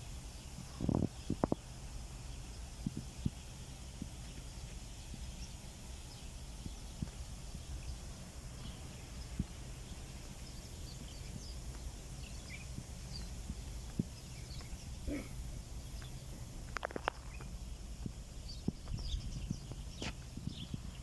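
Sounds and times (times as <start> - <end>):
low outdoor rumble: 0.0 - 21.0
faint bird chirps: 0.3 - 17.8, 18.4 - 21.0.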